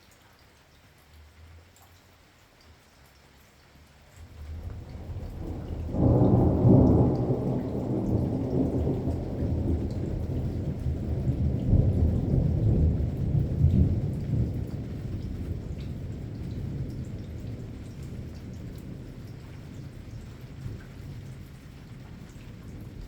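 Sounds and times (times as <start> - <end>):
raindrops pattering: 0.0 - 23.0
thunder rumbling: 4.2 - 23.0.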